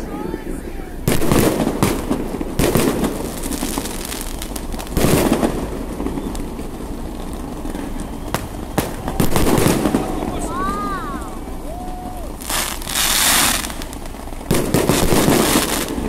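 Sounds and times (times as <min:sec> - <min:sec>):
fireworks bursting with loud bangs: 0:00.0 - 0:16.0
fireworks pops and crackling: 0:01.0 - 0:16.0.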